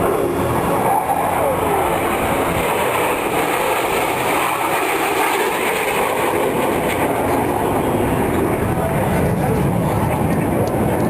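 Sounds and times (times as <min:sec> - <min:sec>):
jet engines of flying aircraft: 0:00.0 - 0:11.0.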